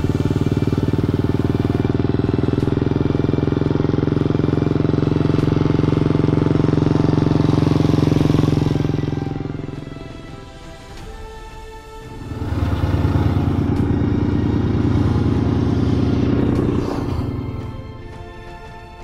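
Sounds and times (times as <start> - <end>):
motorcycle riding past: 0.0 - 19.0.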